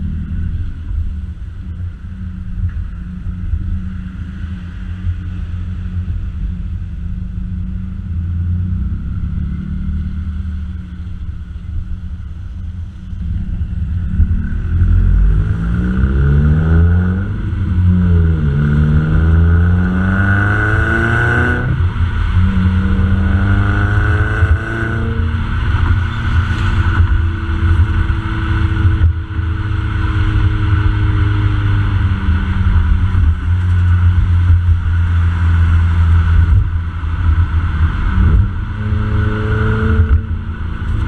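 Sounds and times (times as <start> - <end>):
car engine low drone: 0.0 - 41.0.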